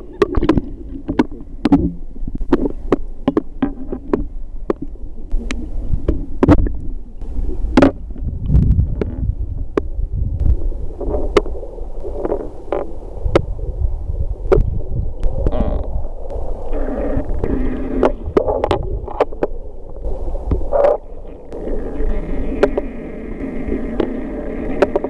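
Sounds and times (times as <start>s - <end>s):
sharp clicks underwater: 0.0s - 13.6s, 14.4s - 25.0s
faint drone of steady tones: 0.0s - 25.0s
underwater rumble of moving water: 0.0s - 25.0s.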